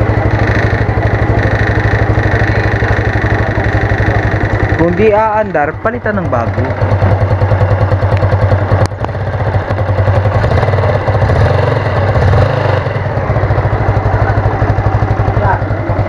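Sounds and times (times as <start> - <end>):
scooter engine idling: 0.0 - 16.0.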